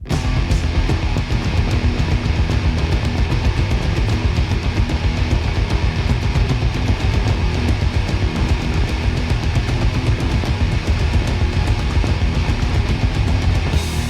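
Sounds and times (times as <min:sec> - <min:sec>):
guitar-driven death metal: 0:00.0 - 0:14.0.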